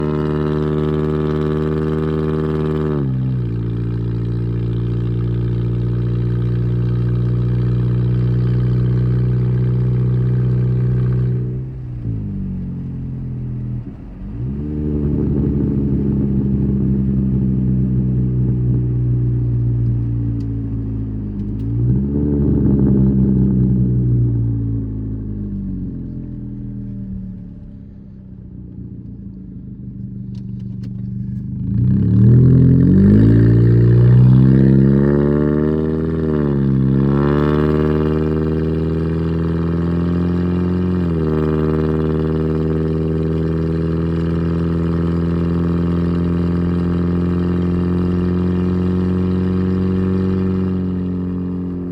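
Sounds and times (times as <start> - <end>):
loud raspy car engine driving: 0.0 - 51.9.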